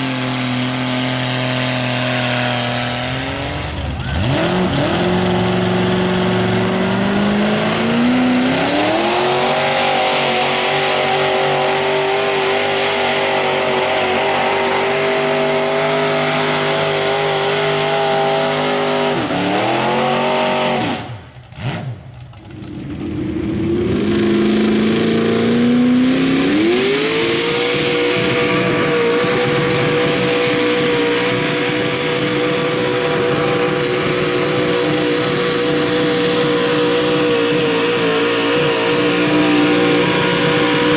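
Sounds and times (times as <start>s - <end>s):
tractor engine revving: 0.0s - 40.9s.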